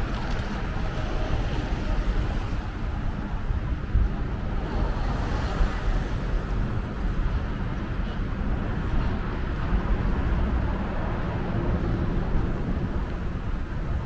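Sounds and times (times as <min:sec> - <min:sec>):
vehicle noise rumble: 0:00.0 - 0:14.0.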